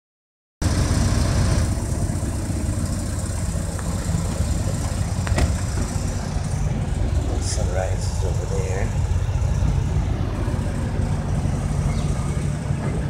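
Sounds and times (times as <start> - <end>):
vehicle engine idling: 0.6 - 13.0.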